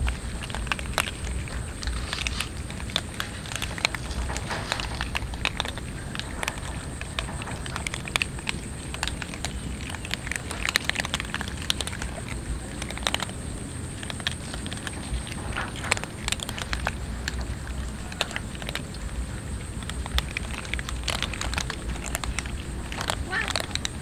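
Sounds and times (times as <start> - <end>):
cats crunching dry kibble: 0.0 - 24.0.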